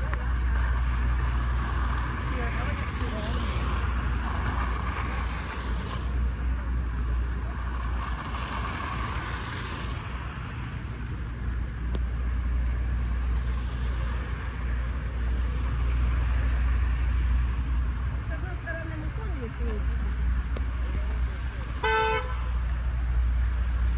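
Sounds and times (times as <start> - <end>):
low traffic rumble: 0.0 - 23.9
vehicles passing: 0.0 - 23.9.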